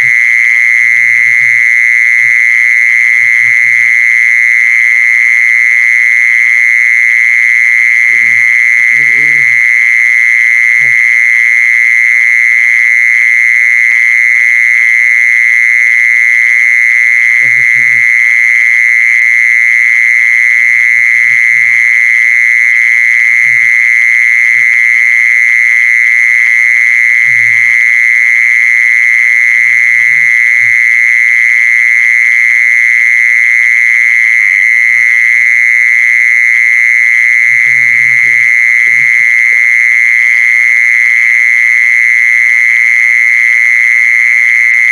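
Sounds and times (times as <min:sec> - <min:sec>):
mole cricket trilling: 0:00.0 - 0:44.9.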